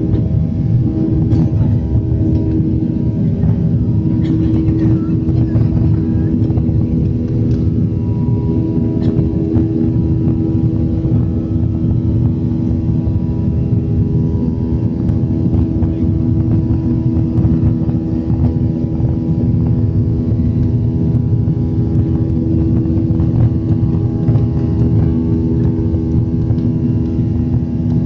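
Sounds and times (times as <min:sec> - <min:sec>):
airliner engines rumbling: 0:00.0 - 0:28.0.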